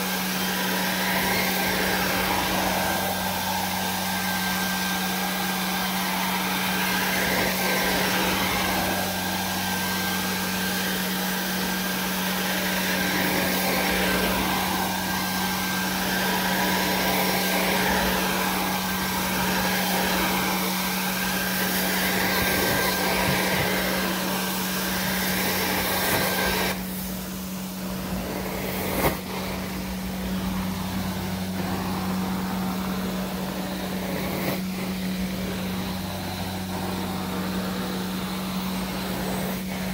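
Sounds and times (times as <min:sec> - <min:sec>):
carpet cleaning extractor vacuum: 0:00.0 - 0:39.9.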